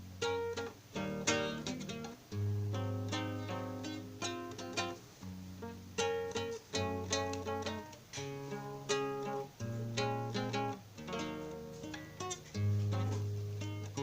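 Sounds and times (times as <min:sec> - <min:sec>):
acoustic guitar plucked and strummed: 0:00.0 - 0:14.0.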